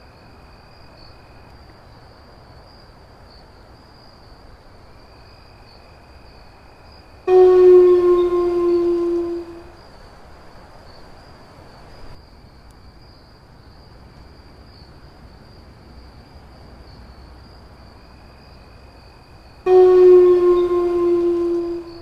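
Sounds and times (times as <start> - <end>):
high-pitched insect trill: 0.0 - 22.0
low background hiss: 0.0 - 22.0.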